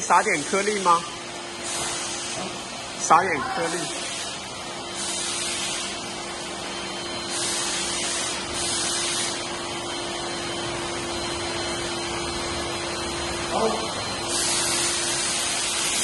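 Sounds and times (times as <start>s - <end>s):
vacuum cleaner motor whine: 0.2s - 16.0s.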